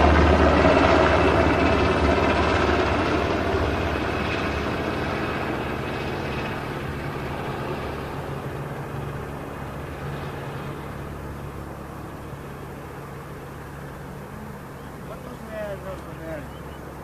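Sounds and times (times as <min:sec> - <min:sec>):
helicopter flying: 0:00.0 - 0:17.0.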